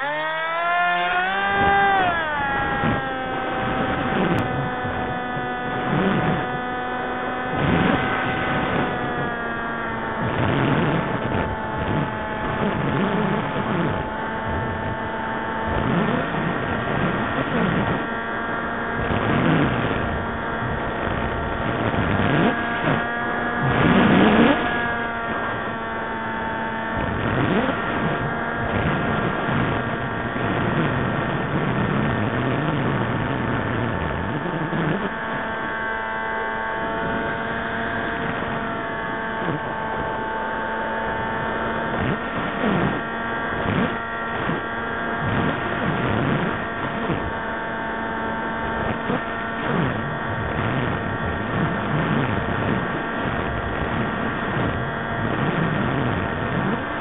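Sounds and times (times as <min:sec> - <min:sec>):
electric motor and propellers whining: 0:00.0 - 0:57.0.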